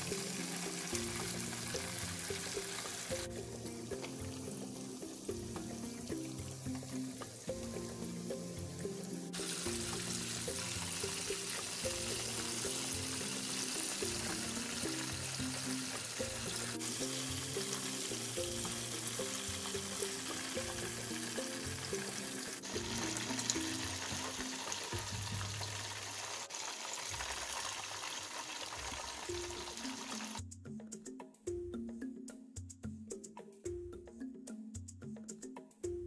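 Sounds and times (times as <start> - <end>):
chicken deep-frying in oil: 0.0 - 30.4
background music: 0.0 - 36.0.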